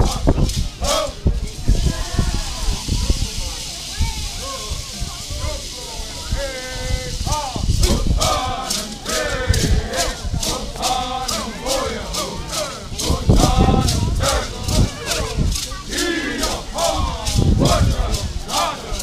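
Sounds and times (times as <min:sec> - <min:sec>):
hand rattle shaken: 0:00.0 - 0:19.0
voices singing in unison: 0:00.0 - 0:19.0.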